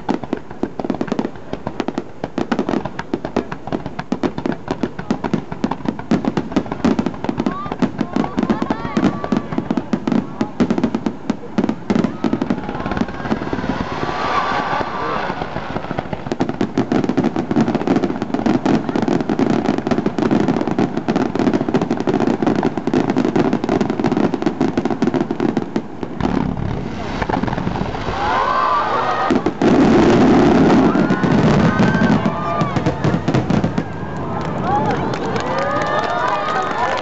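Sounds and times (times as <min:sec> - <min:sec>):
fireworks bursts and crackle: 0:00.0 - 0:37.0.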